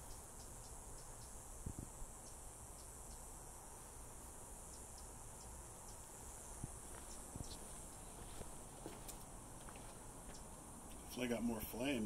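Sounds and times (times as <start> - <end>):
small ticks: 0.0 - 3.3, 4.6 - 11.1
faint insect drone: 0.0 - 12.0.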